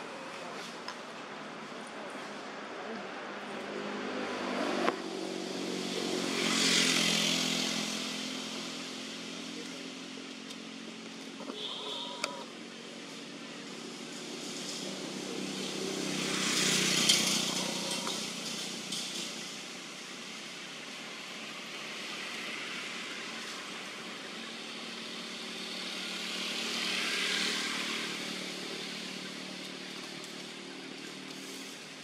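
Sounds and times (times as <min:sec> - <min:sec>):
vehicles passing by: 0:00.0 - 0:32.0.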